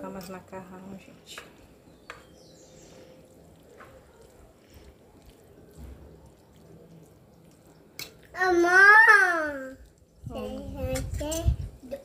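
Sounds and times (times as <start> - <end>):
pasta squishing and scraping: 0.0 - 8.8, 9.4 - 11.9.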